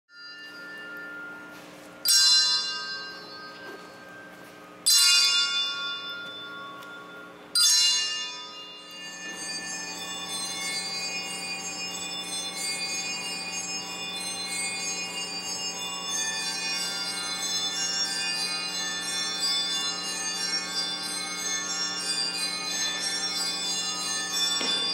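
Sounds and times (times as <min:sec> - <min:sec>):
bell-like metal strikes: 0:00.1 - 0:24.9
shimmering held tones: 0:00.1 - 0:24.9.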